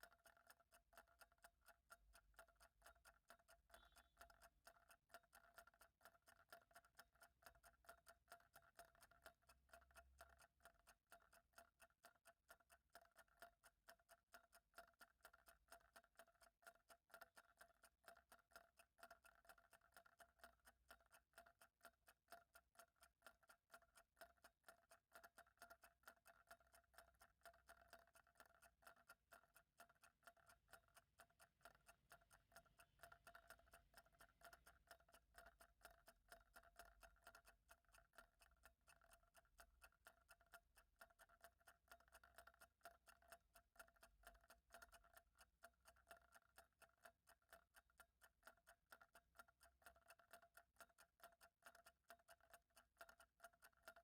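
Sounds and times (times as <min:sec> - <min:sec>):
clock ticking: 0:00.0 - 0:54.0.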